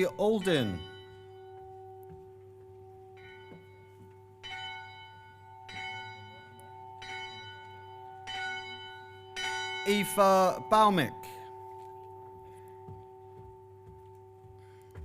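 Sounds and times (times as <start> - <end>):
bell ringing: 0.0 - 2.2, 2.8 - 13.8.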